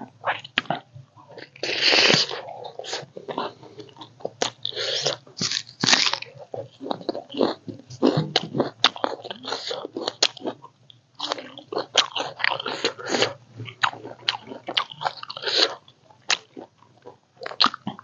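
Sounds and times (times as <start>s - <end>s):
person biting and chewing food: 0.2s - 16.7s.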